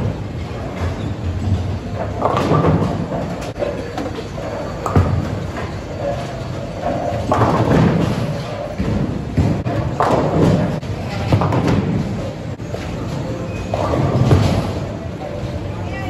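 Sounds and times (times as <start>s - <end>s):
bowling balls crashing into pins: 0.0s - 15.7s.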